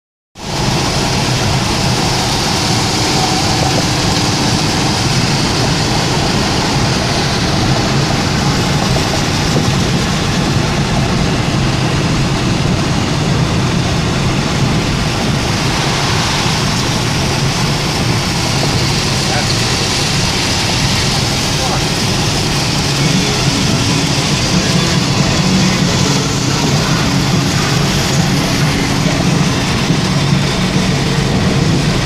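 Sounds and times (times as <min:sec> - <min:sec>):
heavy rain pouring: 0:00.4 - 0:32.0
low rumble: 0:00.5 - 0:32.0.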